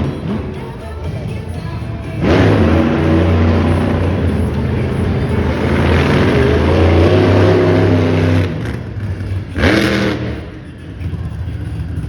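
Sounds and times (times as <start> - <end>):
monster truck engine revving: 0.0 - 0.8, 1.8 - 12.0.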